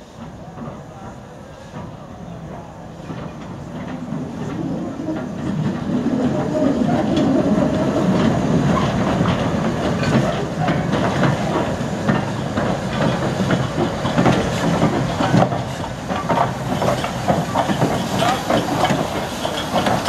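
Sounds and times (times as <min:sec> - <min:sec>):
steam locomotive wheels clanking: 0:00.0 - 0:20.0.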